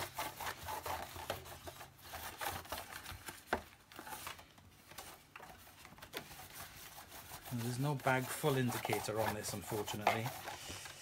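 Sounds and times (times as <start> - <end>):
hand rubbing plastic: 0.0 - 11.0.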